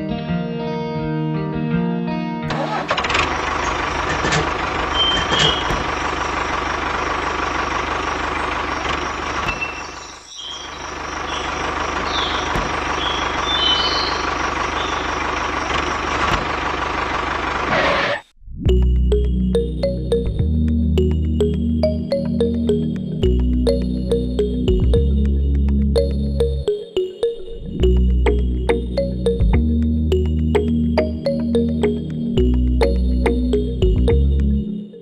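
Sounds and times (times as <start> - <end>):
tractor engine drone: 2.5 - 35.0.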